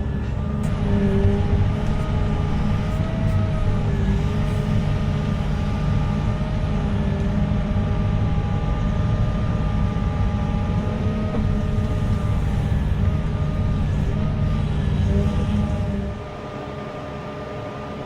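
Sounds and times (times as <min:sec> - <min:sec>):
heavy machine engine rumbling: 0:00.0 - 0:18.0
whining tones: 0:00.0 - 0:18.0.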